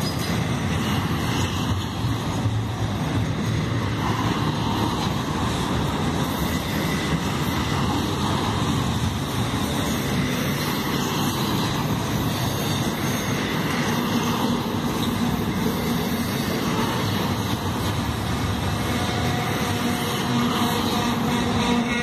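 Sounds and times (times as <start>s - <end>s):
steel train wheels on rails: 0.0s - 22.0s.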